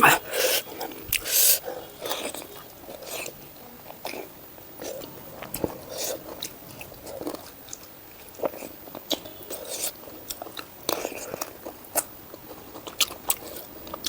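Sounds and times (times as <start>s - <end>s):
chewing and mouth smacking: 0.3s - 14.0s.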